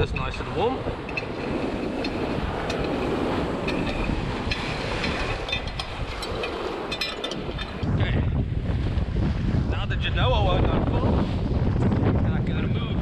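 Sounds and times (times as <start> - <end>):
sea water rushing past boat: 0.0 - 12.3
wind buffeting microphone: 0.0 - 13.0.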